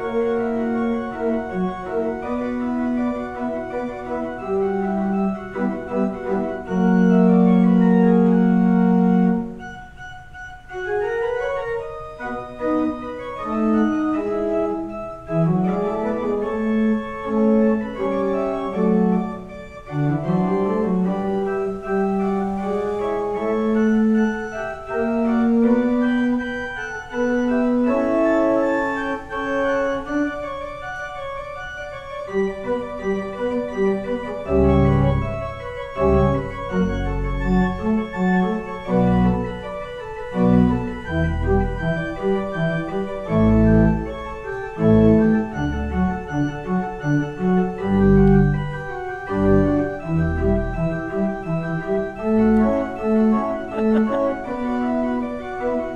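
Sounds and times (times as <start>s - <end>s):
organ music: 0.0s - 55.9s.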